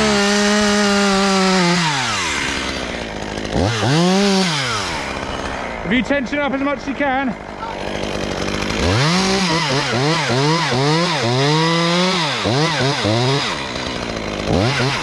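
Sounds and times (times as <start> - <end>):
chainsaw cutting tree limb: 0.0 - 15.0.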